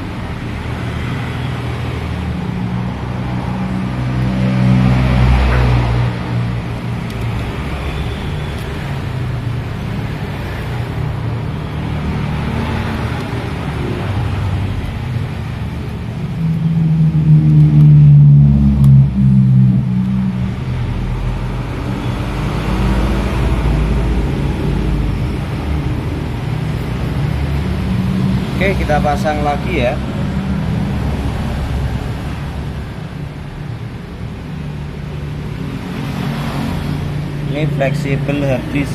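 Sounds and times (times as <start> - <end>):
vehicle engine rumble: 0.0 - 38.9
vehicle passing close by: 0.0 - 38.9.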